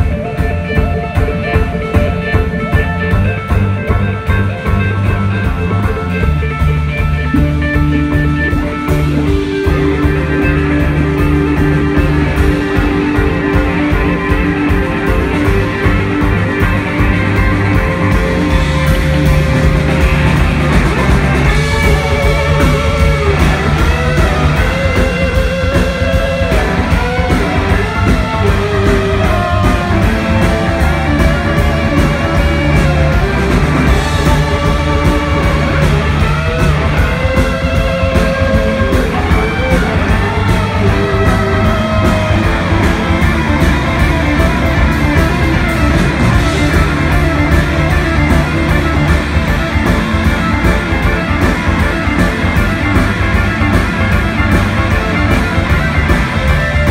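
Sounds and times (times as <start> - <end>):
bass guitar: 0.0 - 56.9
drum kit: 0.0 - 56.9
electric guitar lead lines: 0.0 - 56.9.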